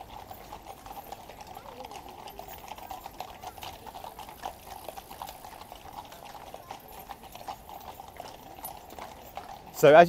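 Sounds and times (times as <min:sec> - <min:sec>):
horse hooves clip-clopping on road: 0:00.0 - 0:10.0.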